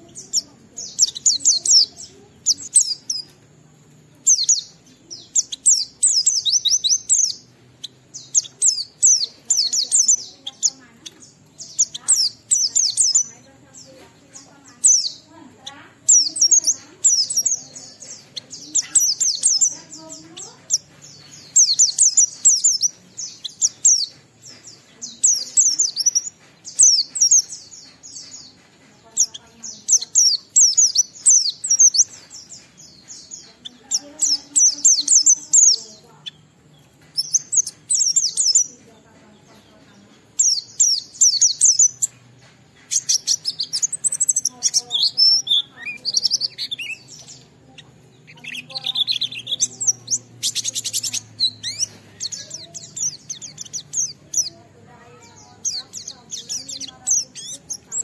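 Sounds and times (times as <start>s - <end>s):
small bird twittering song: 0.0s - 58.0s.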